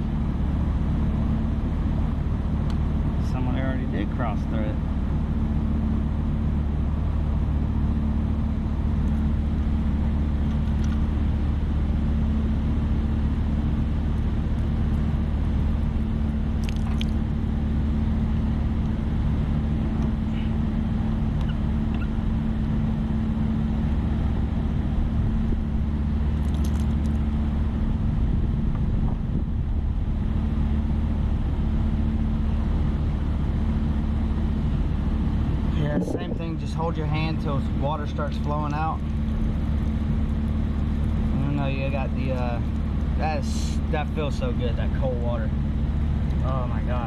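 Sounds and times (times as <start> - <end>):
hvac unit humming: 0.0 - 47.0.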